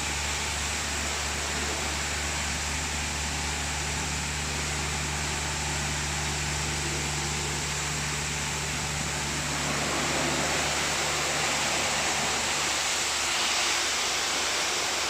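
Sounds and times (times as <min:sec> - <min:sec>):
car wash machine humming and hissing: 0:00.0 - 0:15.0.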